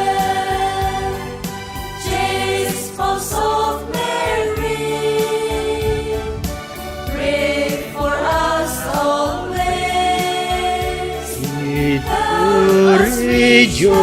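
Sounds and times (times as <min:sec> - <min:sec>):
choir singing a hymn: 0:00.0 - 0:14.0
instrumental accompaniment: 0:00.0 - 0:14.0.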